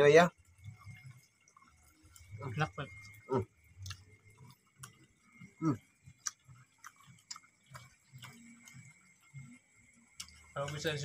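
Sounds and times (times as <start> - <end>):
faint high whine: 0.0 - 11.0
person chewing crunchy food: 0.4 - 10.6.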